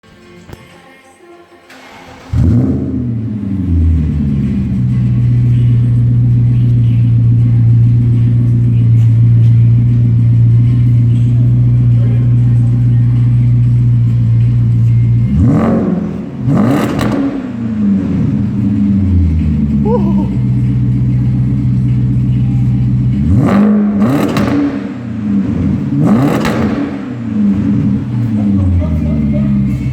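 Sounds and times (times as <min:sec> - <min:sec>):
car engine revving and idling: 0:01.7 - 0:29.9
engine cranking: 0:01.7 - 0:29.9.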